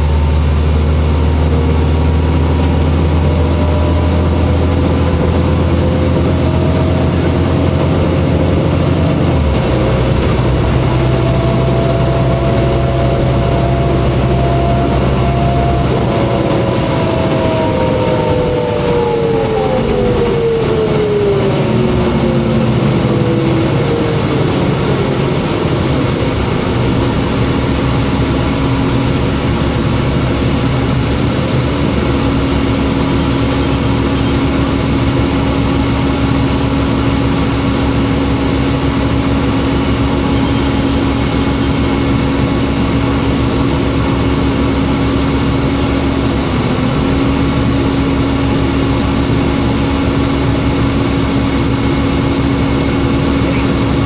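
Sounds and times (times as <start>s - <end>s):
bus diesel engine hum: 0.0s - 54.0s
drivetrain whine: 0.0s - 54.0s.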